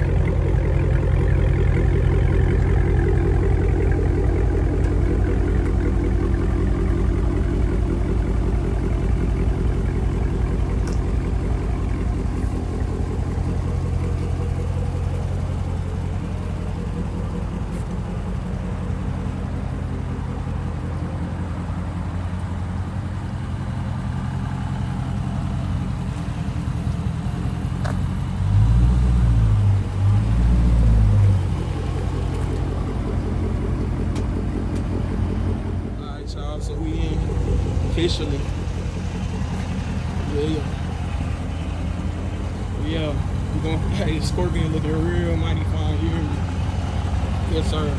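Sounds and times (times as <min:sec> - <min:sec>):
car engine running and revving: 0:00.0 - 0:47.9.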